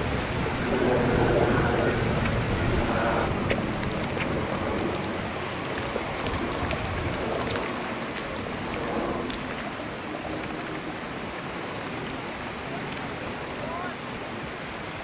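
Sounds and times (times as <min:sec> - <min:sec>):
outboard motor humming: 0:00.0 - 0:14.6
small splashes: 0:00.0 - 0:15.0
water wash: 0:00.0 - 0:15.0.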